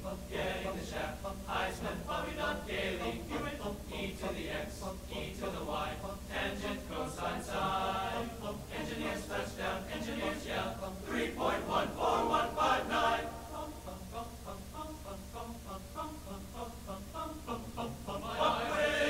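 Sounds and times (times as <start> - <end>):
group of voices singing: 0.0 - 19.0
steady low hum: 0.0 - 19.0.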